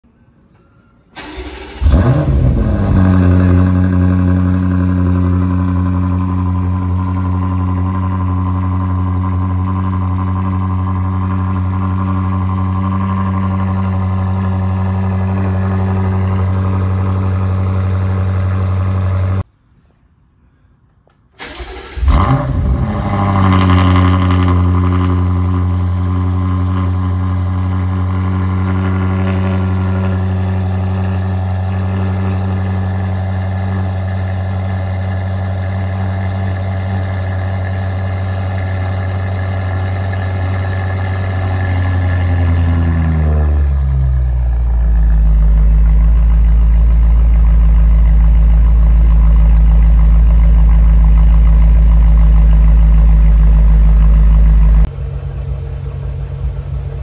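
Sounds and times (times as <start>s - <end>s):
car engine cold start: 1.1s - 19.4s, 21.4s - 56.0s
car engine idling: 1.2s - 19.5s, 21.4s - 57.0s.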